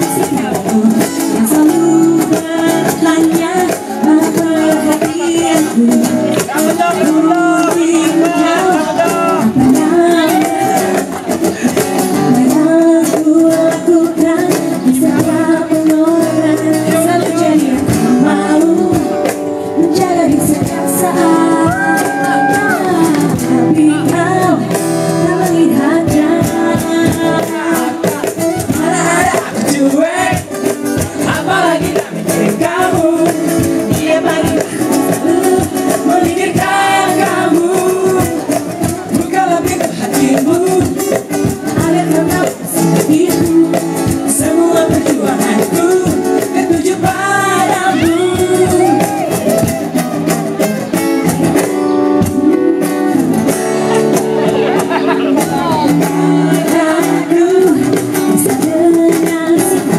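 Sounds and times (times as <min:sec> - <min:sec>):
girl singing: 0:00.0 - 0:11.1, 0:12.2 - 0:49.7, 0:55.5 - 0:59.9
guitar accompaniment: 0:00.0 - 0:59.9.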